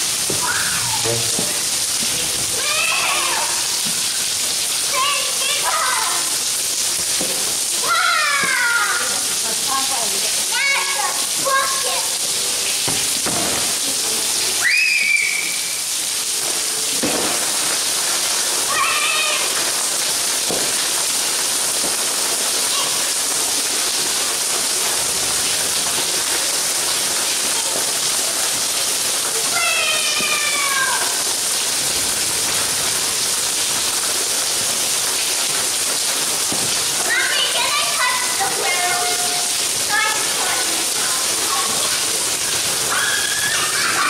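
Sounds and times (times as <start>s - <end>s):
rain falling on paving: 0.0s - 44.0s.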